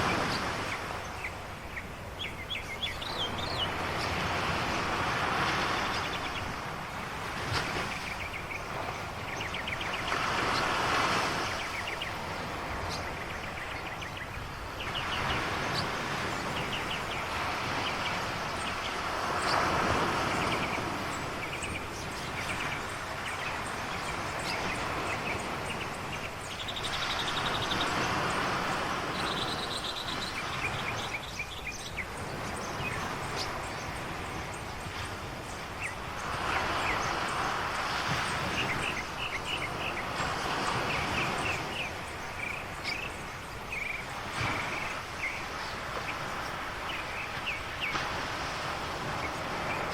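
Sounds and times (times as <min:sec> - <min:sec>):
ocean waves washing ashore: 0:00.0 - 0:49.9.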